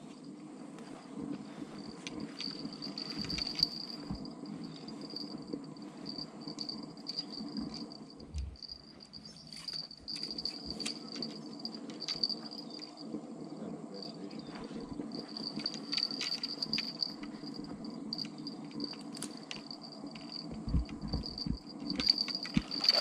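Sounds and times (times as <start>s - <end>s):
insects trilling: 0.0s - 23.0s
low background rumble: 0.0s - 23.0s.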